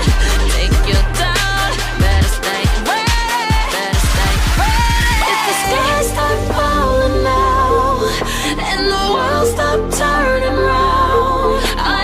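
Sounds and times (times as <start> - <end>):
pop music: 0.0 - 12.0.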